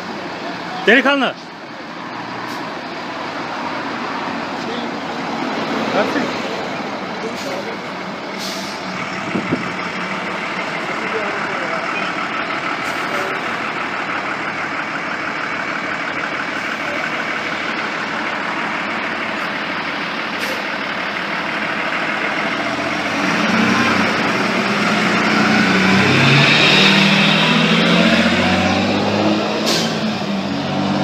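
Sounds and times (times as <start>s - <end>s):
diesel truck engine running: 0.0s - 31.0s
road noise: 0.0s - 31.0s.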